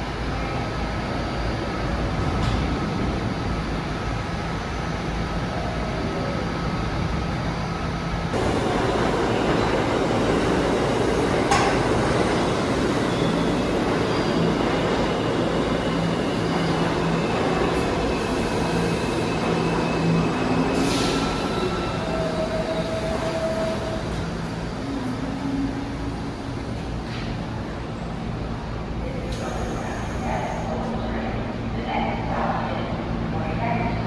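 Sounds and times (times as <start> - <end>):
subway train rumbling: 0.0 - 34.0.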